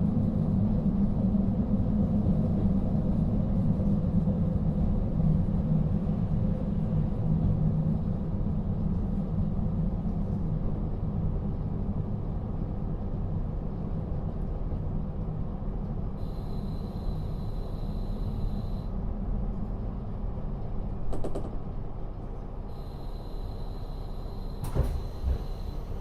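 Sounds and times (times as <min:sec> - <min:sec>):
railcar rumbling on rails: 0:00.0 - 0:26.0.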